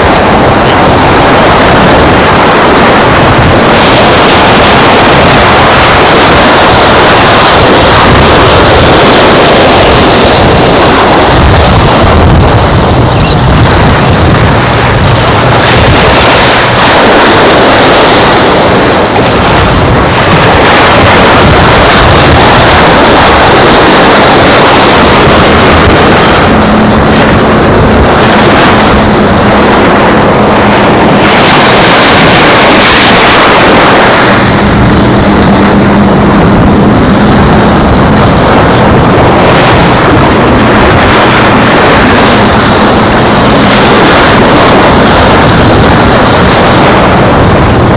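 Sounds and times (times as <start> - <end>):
surf on the shore: 0.0 - 47.9
wind: 0.0 - 47.9.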